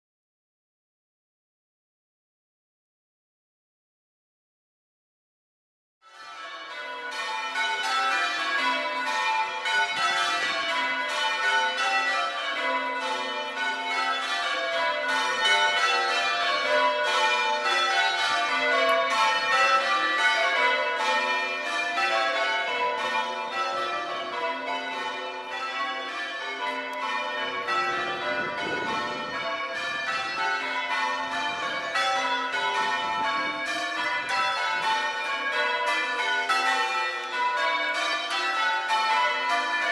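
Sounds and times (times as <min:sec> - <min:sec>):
church bells ringing: 0:06.0 - 0:39.9.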